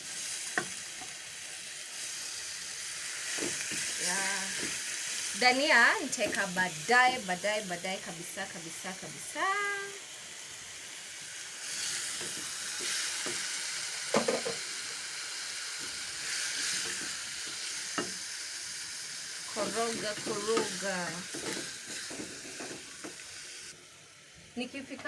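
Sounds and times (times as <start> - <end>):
vegetables sizzling in a pot: 0.0 - 25.0.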